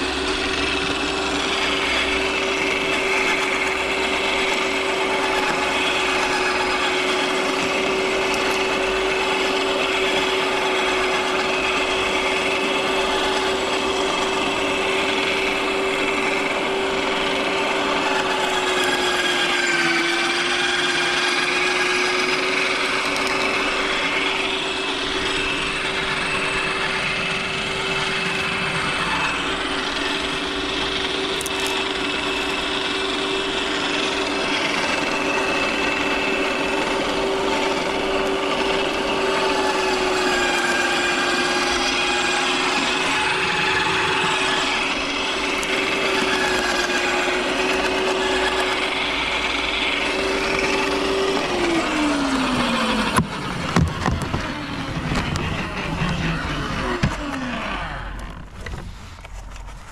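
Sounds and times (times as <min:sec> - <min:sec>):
shredder motor winding down: 0:00.0 - 0:59.8
garden shredder grinding branches: 0:00.0 - 0:59.9.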